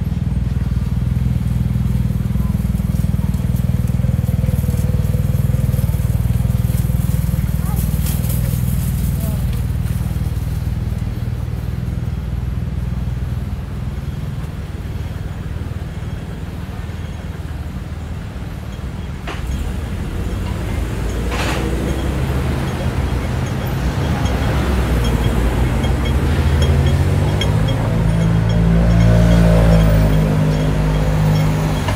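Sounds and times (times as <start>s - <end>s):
vehicle engines rumbling: 0.0s - 31.9s.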